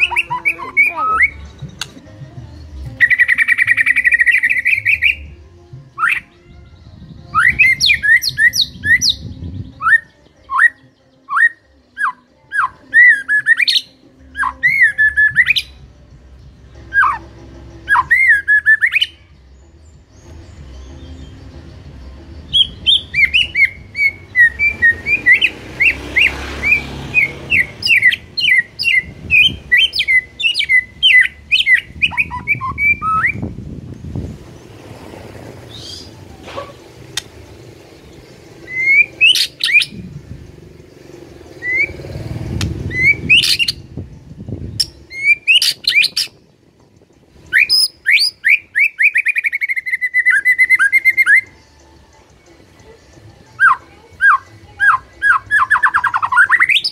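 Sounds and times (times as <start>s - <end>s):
songbird singing chirps and trills: 0.0s - 56.9s.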